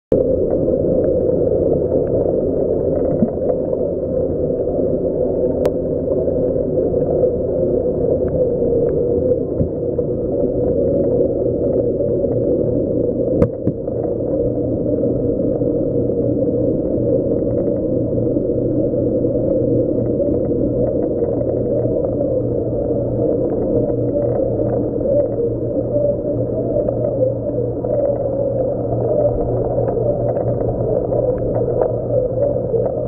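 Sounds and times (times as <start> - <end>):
aquarium pumps and circulating water: 0.1 - 33.0.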